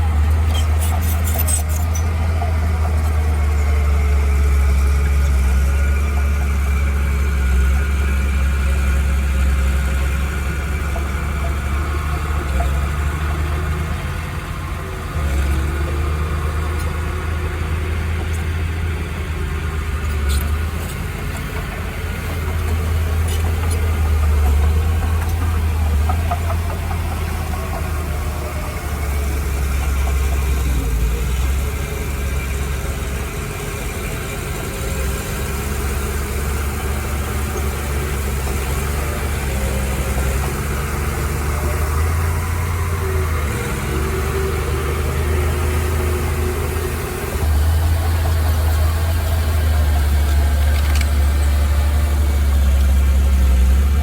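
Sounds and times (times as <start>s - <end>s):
heavy machinery engine rumbling: 0.0s - 54.0s.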